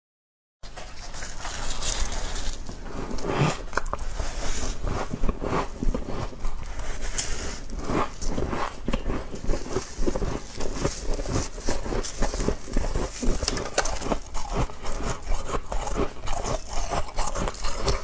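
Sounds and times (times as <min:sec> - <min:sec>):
crunchy chewing: 0:00.8 - 0:18.0.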